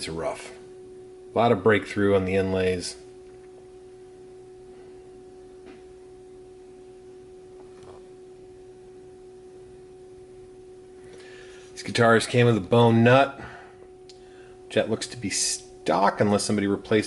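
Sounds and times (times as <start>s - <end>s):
steady pitched tone: 0.0s - 17.0s.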